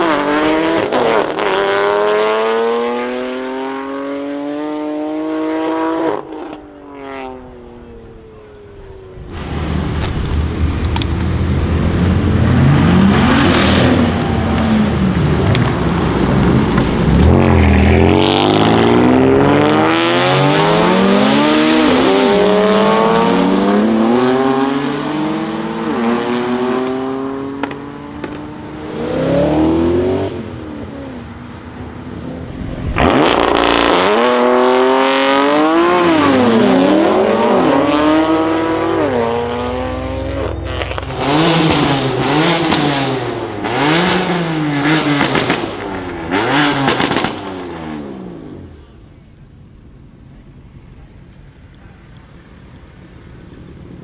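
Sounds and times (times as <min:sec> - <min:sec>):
sports car engine accelerating: 0:00.0 - 0:48.8
suv engine accelerating: 0:00.0 - 0:54.0.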